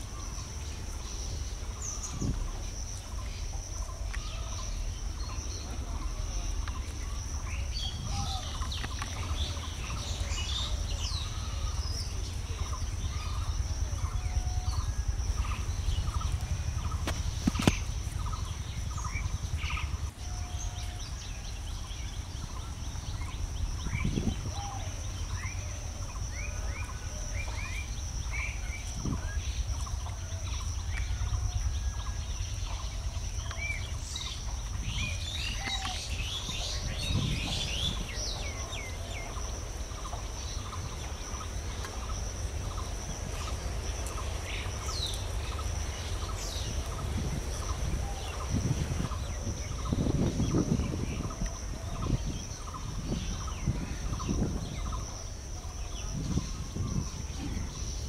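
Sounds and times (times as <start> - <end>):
birds chirping and calling: 0.0 - 58.0
low rumble: 0.0 - 58.0.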